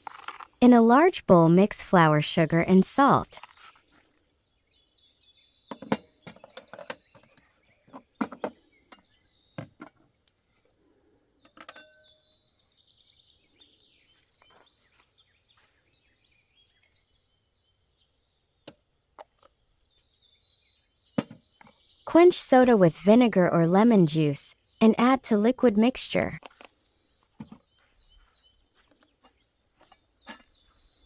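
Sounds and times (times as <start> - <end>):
birds chirping: 1.0 - 10.2, 10.8 - 31.0.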